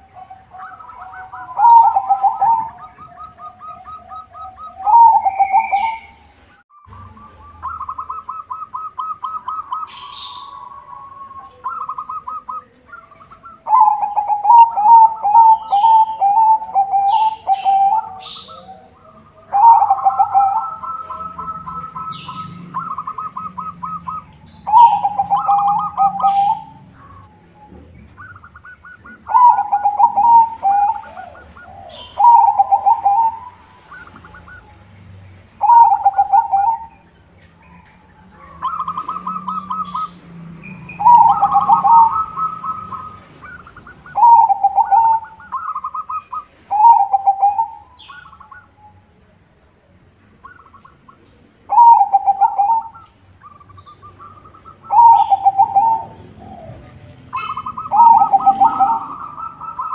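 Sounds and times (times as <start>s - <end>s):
dove cooing: 0.0s - 49.3s, 50.4s - 59.9s
small birds chirping: 0.0s - 59.9s.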